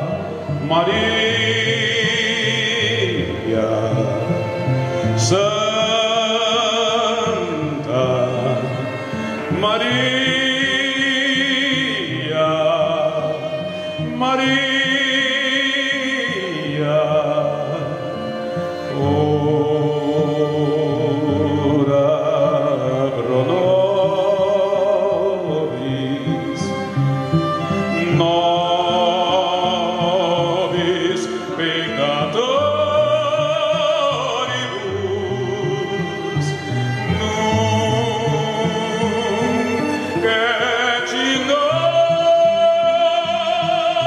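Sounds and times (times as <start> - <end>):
man singing with vibrato: 0.0 - 44.0
string ensemble playing: 0.0 - 44.0.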